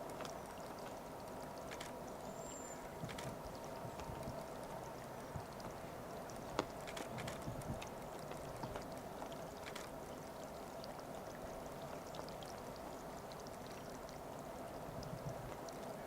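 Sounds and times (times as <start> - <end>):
faint clicks and ticks: 0.0 - 14.2
water trickling and pouring: 0.0 - 16.0.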